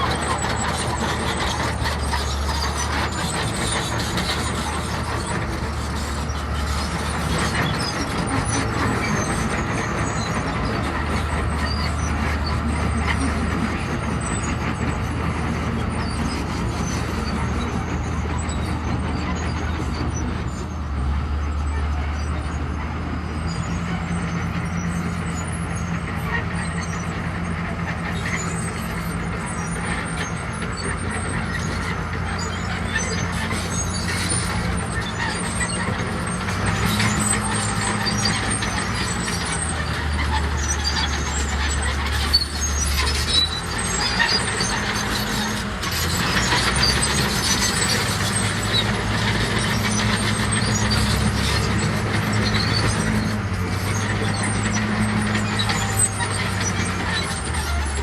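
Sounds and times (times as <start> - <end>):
heavy diesel engines under load: 0.0 - 58.0.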